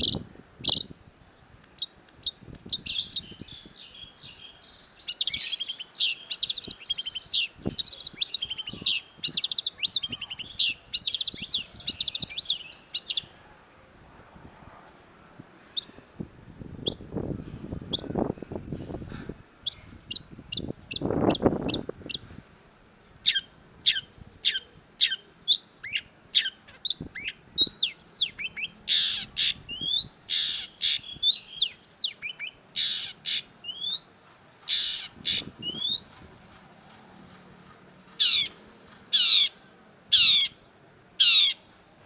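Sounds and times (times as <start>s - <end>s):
harsh rasping bird calls: 0.0s - 13.3s, 19.7s - 41.8s.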